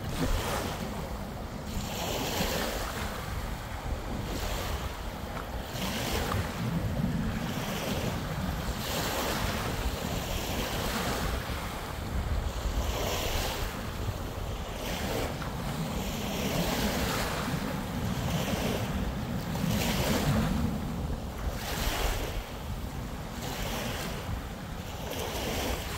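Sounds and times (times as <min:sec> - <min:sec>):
waves washing onto sandy beach: 0:00.0 - 0:25.9
wind buffeting microphone: 0:00.0 - 0:25.9.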